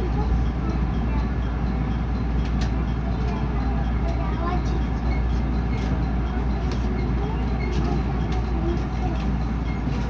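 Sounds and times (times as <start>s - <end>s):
train interior rumble: 0.0s - 10.0s.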